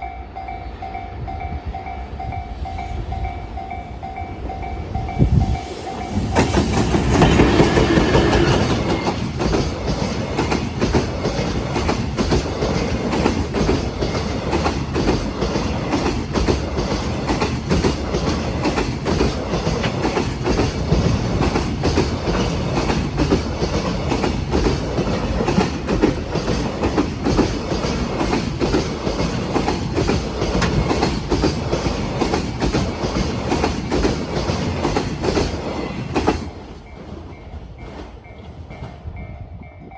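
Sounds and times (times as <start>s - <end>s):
train wheels clattering over rails: 3.4s - 39.1s.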